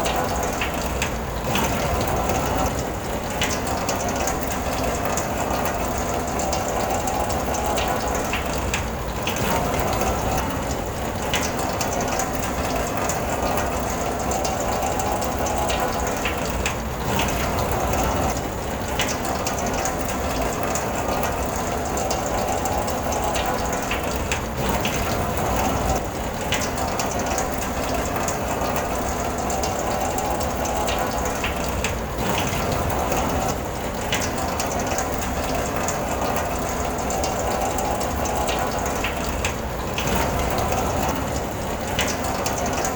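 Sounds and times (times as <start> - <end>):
rain on car roof: 0.0 - 42.9.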